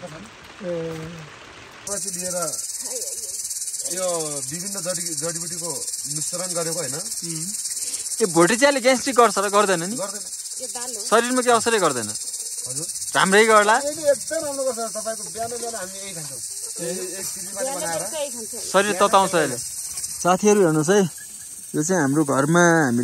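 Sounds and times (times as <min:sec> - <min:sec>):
people talking: 0:00.0 - 0:01.3, 0:01.9 - 0:19.6, 0:20.2 - 0:21.1, 0:21.8 - 0:23.0
high-pitched insect chorus: 0:00.0 - 0:23.0.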